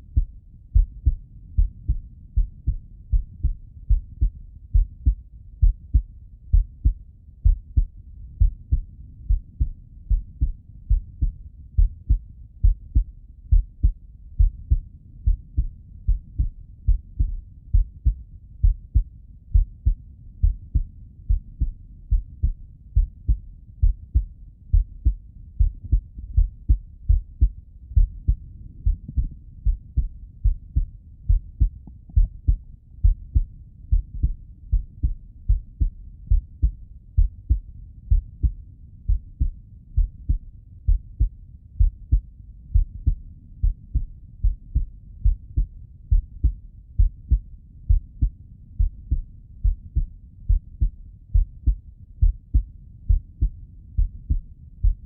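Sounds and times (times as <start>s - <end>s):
heartbeat thuds: 0.0s - 55.0s.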